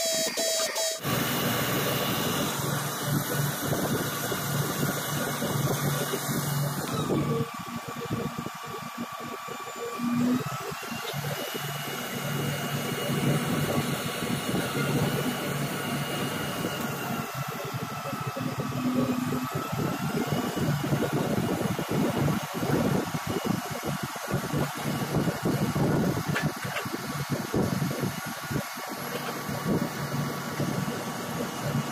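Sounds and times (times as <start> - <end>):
faint whine: 0.0 - 31.9
diesel engine running: 0.4 - 31.9.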